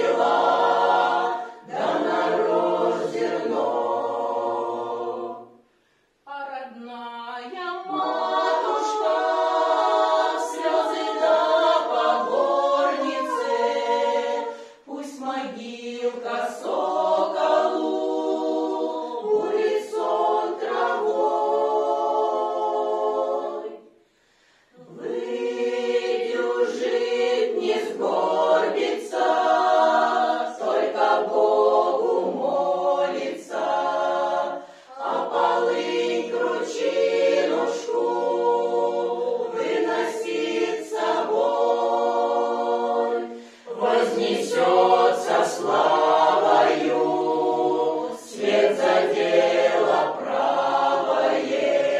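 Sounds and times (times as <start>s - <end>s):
mixed choir singing a cappella: 0.0s - 51.9s.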